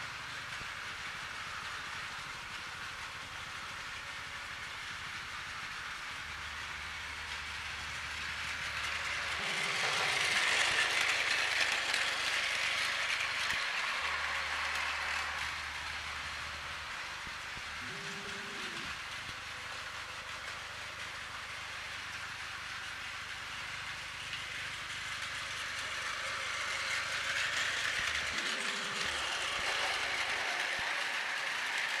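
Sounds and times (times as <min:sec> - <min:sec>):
toy train motor whirring: 0:00.0 - 0:32.0
toy train wheels rattling: 0:00.0 - 0:32.0.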